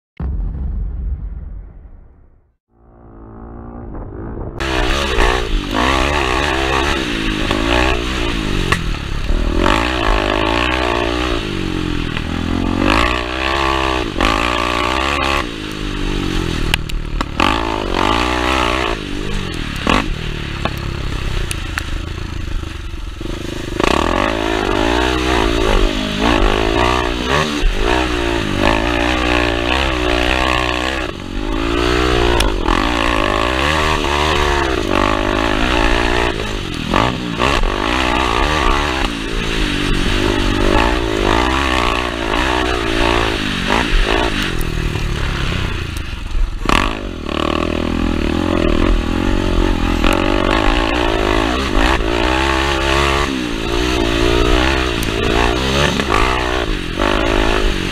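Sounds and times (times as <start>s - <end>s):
dirt bike engine revving: 2.8s - 57.9s.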